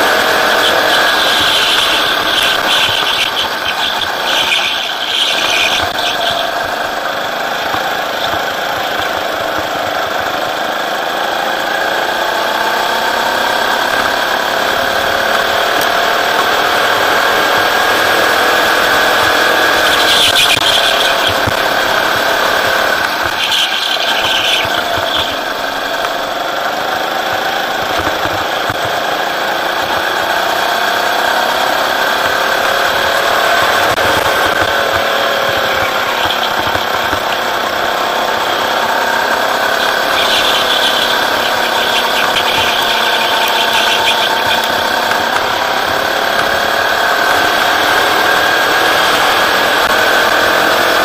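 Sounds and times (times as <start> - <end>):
go-kart engine revving: 0.0 - 51.0.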